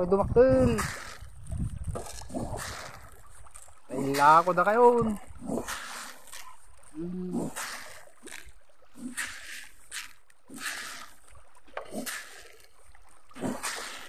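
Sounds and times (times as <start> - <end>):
pond water splashing: 0.0 - 14.0.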